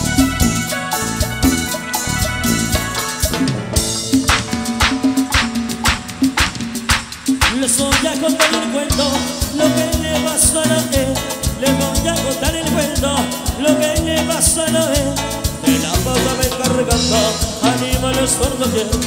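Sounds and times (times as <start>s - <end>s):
latin dance band playing: 0.0s - 19.0s.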